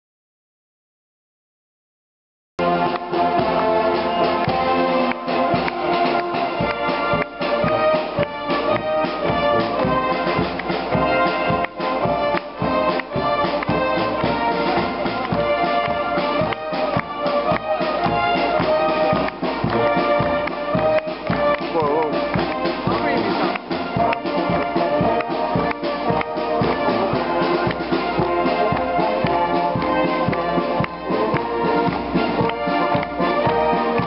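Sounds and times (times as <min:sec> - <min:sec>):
drum: 0:02.6 - 0:34.0
trumpets and trombones: 0:02.6 - 0:34.0
wind band playing: 0:02.6 - 0:34.0.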